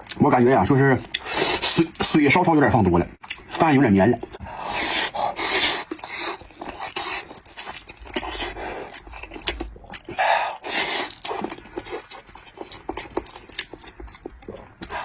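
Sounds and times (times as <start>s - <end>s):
man chewing with mouth noises: 1.0s - 2.2s, 3.2s - 15.0s.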